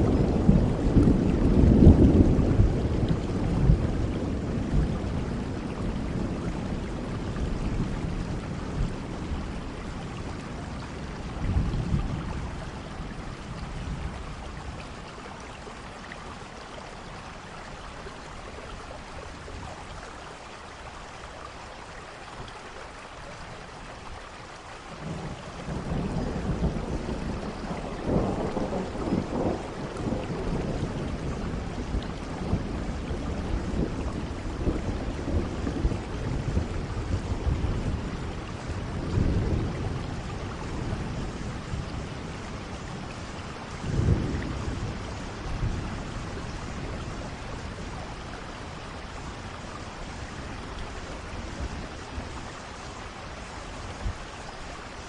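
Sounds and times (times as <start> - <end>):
rolling thunder: 0.0 - 15.1, 25.0 - 54.5
steady rain: 0.0 - 55.0.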